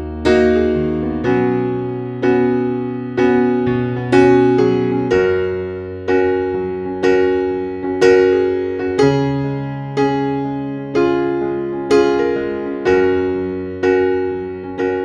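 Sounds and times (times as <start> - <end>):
slow gentle keyboard chords: 0.0 - 15.0.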